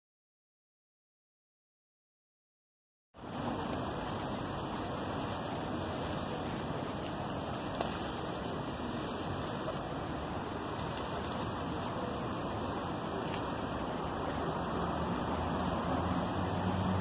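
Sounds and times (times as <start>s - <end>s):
steady rushing noise: 3.2s - 17.0s.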